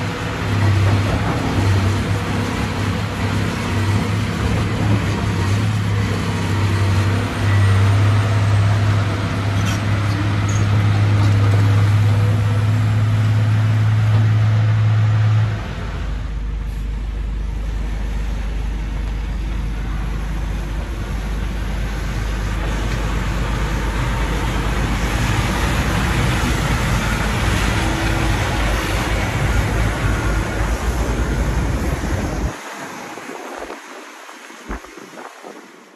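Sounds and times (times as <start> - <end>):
excavator diesel engine running: 0.0 - 34.8.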